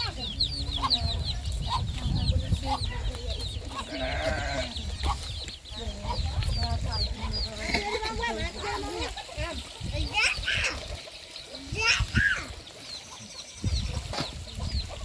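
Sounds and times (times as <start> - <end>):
chicken clucking: 0.0 - 15.0
chicks peeping: 0.0 - 15.0.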